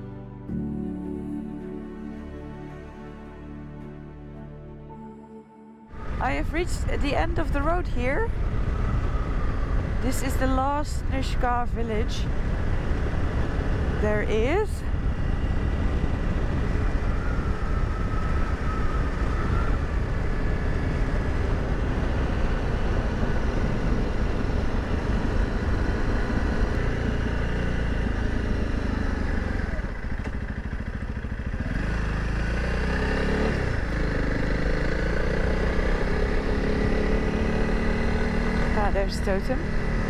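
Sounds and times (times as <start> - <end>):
road and wind noise: 5.9 - 40.0
motorcycle engine running: 6.0 - 40.0.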